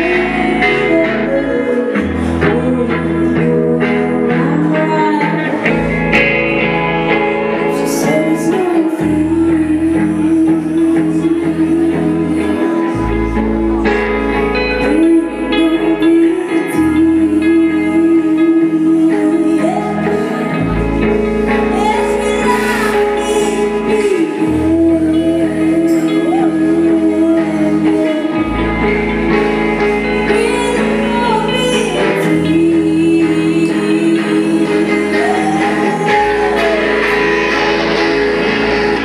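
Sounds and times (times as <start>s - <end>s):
bass line: 0.0s - 39.0s
electric guitar chords: 0.0s - 39.0s
lead vocal singing: 7.3s - 39.0s.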